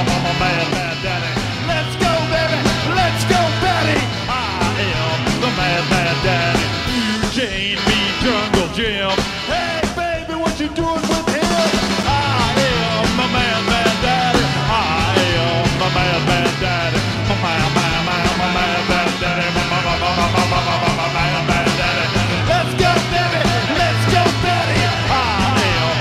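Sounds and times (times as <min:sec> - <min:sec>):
punk rock music: 0:00.0 - 0:26.0.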